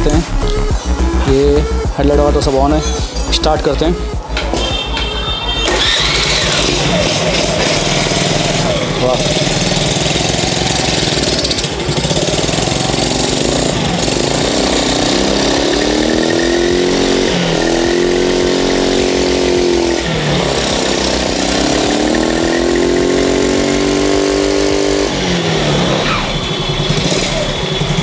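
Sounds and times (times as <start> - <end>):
scooter engine idling and revving: 0.0 - 28.0.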